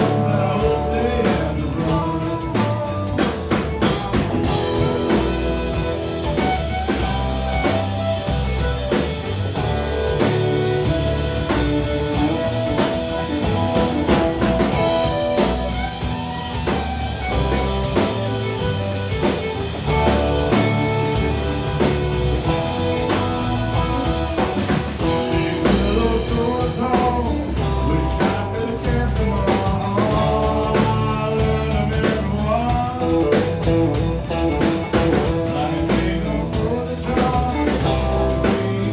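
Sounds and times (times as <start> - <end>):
bass: 0.0 - 38.9
drum kit: 0.0 - 38.9
guitar melody: 0.0 - 38.9.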